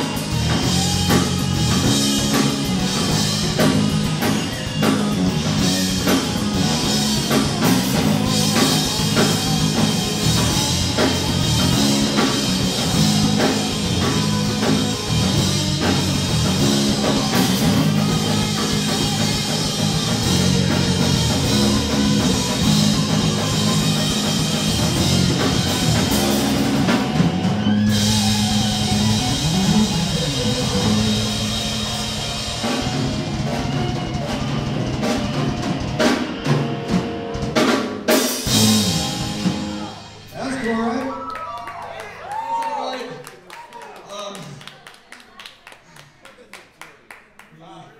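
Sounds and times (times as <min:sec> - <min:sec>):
drum kit: 0:00.0 - 0:41.2
electric guitar: 0:00.0 - 0:41.8
bass guitar: 0:00.0 - 0:42.6.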